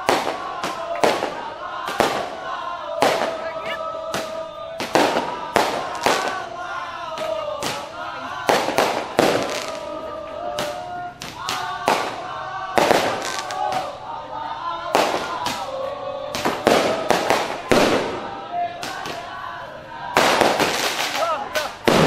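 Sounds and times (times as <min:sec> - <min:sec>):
loud sharp bangs: 0:00.0 - 0:09.9, 0:10.5 - 0:14.0, 0:14.9 - 0:19.4, 0:20.1 - 0:22.0.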